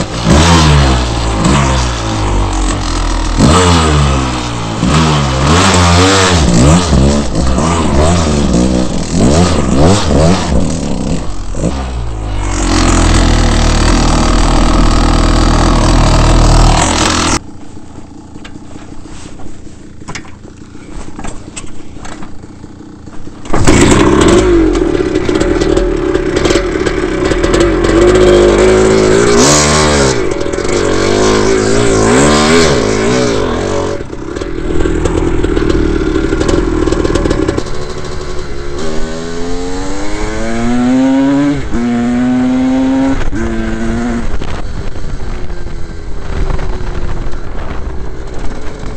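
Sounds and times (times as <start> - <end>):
dirt bike engines revving: 0.0 - 19.0, 19.8 - 48.9
clatter: 0.0 - 38.8, 39.9 - 48.9.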